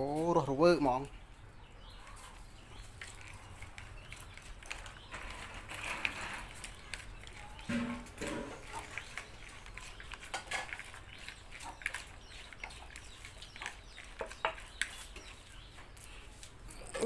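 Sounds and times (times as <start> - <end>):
hand tossing wet salad: 2.0 - 17.0.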